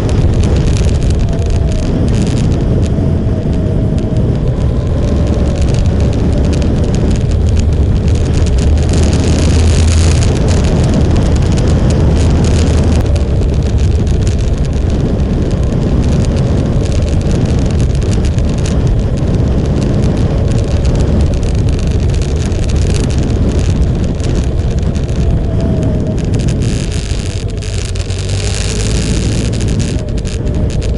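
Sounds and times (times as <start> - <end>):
motorcycle engine running: 0.0 - 30.9
wind noise on microphone: 0.0 - 30.9.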